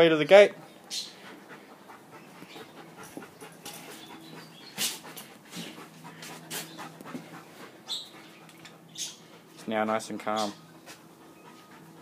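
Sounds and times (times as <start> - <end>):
dog panting: 0.4 - 12.0.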